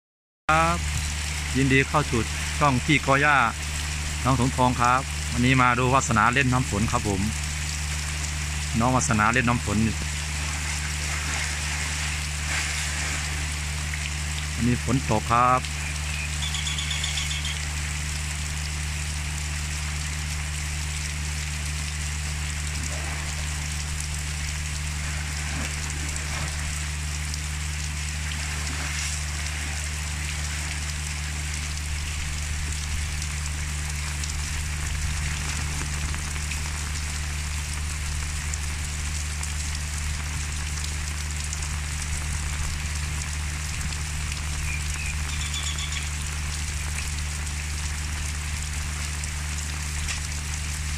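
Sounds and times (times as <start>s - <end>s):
low hum: 0.5s - 50.9s
rain on muddy ground: 0.5s - 50.9s.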